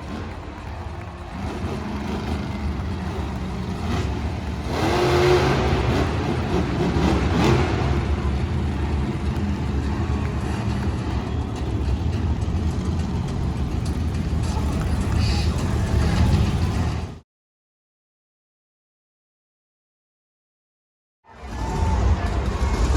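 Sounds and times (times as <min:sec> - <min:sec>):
monster truck engine revving: 0:00.0 - 0:17.2, 0:21.4 - 0:22.9.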